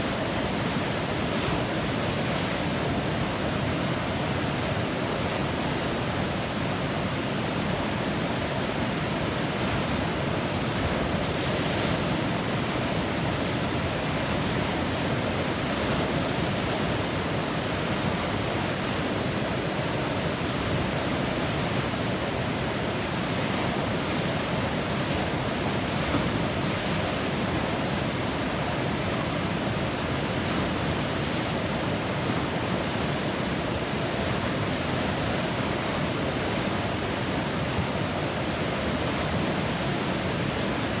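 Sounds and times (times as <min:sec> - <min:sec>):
river rapid whitewater rushing: 0:00.0 - 0:41.0.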